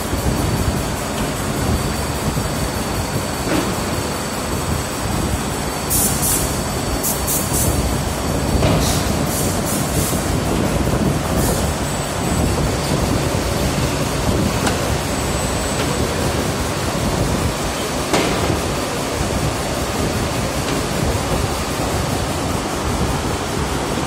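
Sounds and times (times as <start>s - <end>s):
machine rumbling and rattling: 0.0s - 24.0s.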